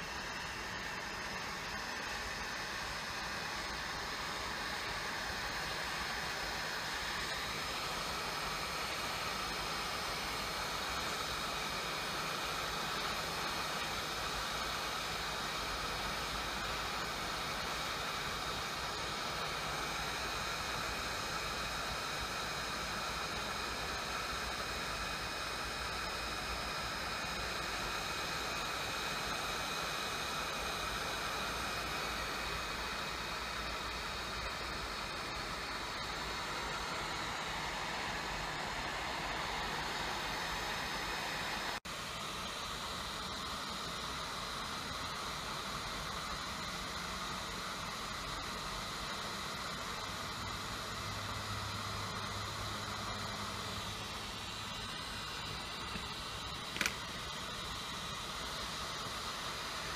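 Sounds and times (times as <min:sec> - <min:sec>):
hot-air gun blowing: 0:00.0 - 0:59.9.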